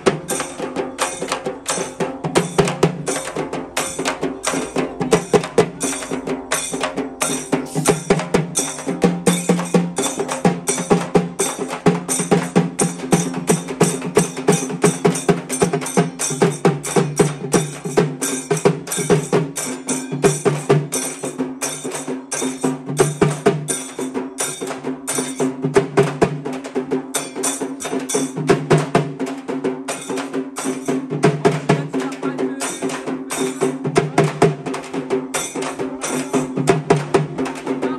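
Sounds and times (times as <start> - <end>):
fast drum strokes: 0.0 - 37.9.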